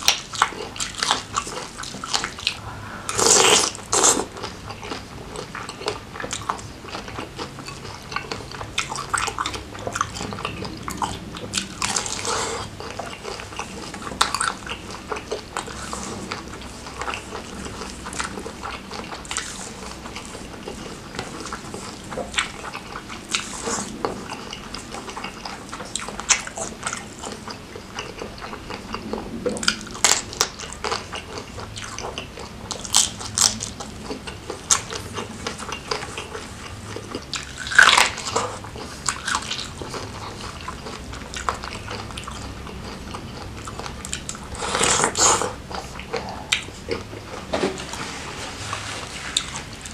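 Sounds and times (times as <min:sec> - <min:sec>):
wet chewing and crunching: 0:00.0 - 0:49.9.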